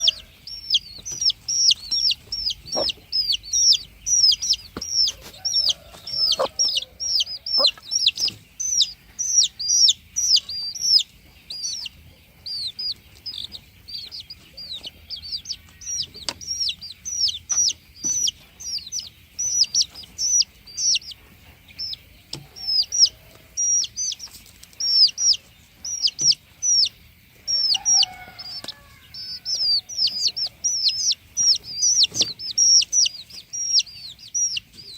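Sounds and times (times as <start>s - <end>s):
chicken clucking: 0.0s - 34.9s
chicks peeping: 0.0s - 34.9s.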